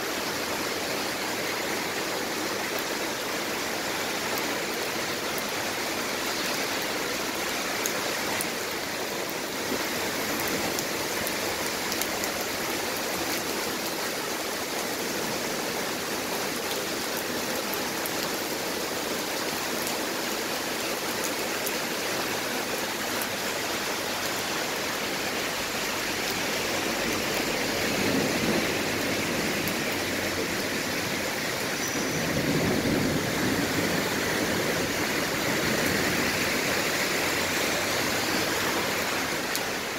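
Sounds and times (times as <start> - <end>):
heavy rain on a wet street: 0.0 - 39.9.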